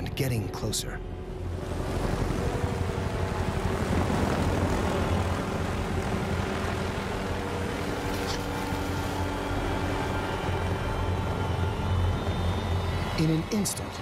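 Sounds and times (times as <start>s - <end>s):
helicopter rotor and engine drone: 0.0s - 14.0s.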